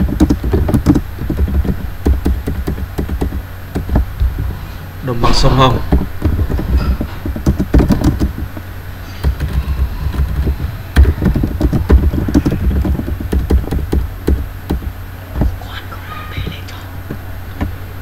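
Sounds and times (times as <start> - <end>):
keyboard typing: 0.0 - 15.6.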